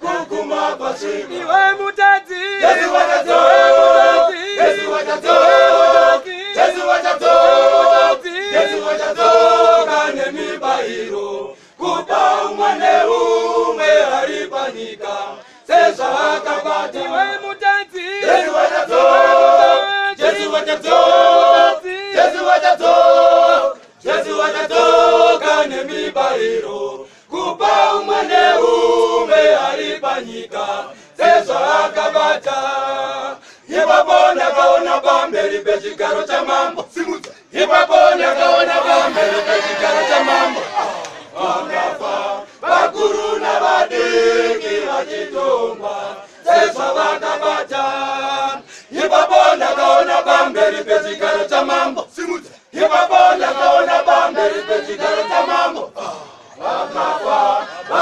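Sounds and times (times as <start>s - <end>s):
men's choir singing a cappella: 0.0s - 58.0s.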